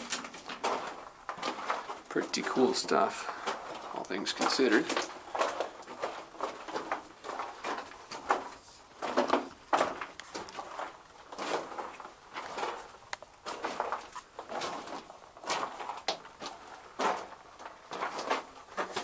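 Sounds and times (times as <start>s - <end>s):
footsteps on loose rock: 0.0s - 19.0s.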